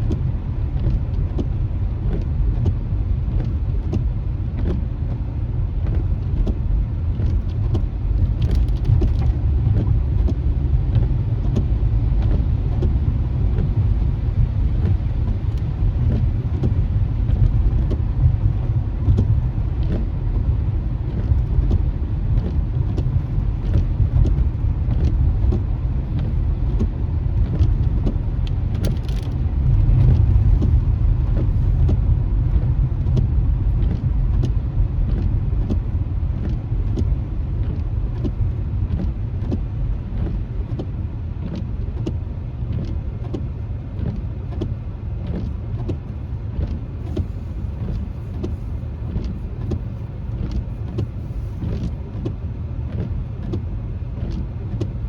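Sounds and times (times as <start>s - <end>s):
car cabin road rumble: 0.0s - 55.0s
rain ticking on windshield: 0.0s - 55.0s.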